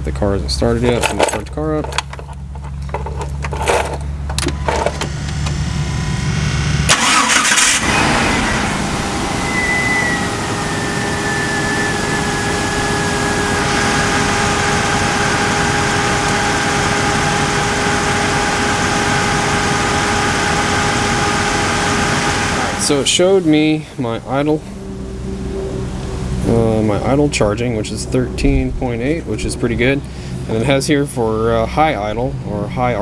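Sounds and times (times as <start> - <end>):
car engine starting and idling: 0.0 - 33.0
thin whine dropping in pitch: 4.3 - 32.6.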